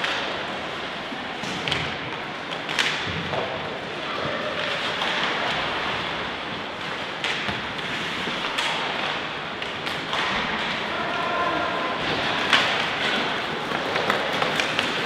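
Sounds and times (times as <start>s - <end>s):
indoor sports hall play: 0.0s - 15.0s.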